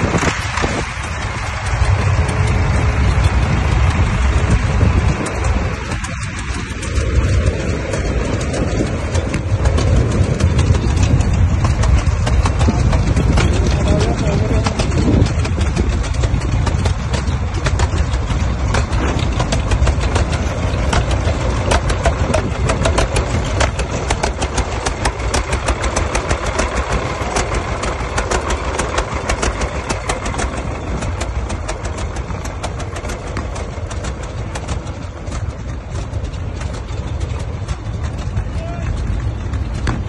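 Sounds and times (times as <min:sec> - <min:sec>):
tractor engine popping exhaust: 0:00.0 - 0:40.0.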